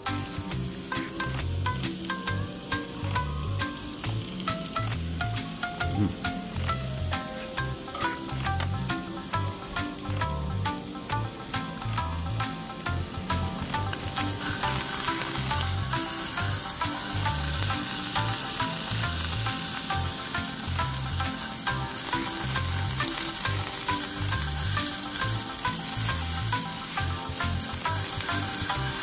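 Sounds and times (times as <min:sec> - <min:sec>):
background music: 0:00.0 - 0:29.0
meat and vegetables sizzling: 0:00.0 - 0:29.0.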